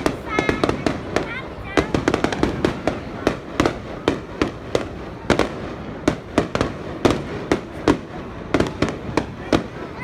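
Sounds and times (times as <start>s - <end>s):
fireworks bangs: 0.0s - 10.0s
rumble of firework bursts: 0.0s - 10.0s.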